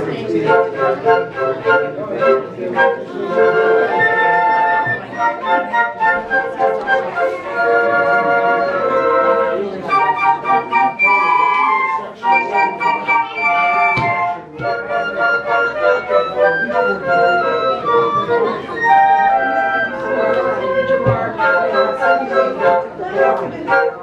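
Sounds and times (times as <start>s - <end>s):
flute ensemble playing: 0.0s - 24.0s.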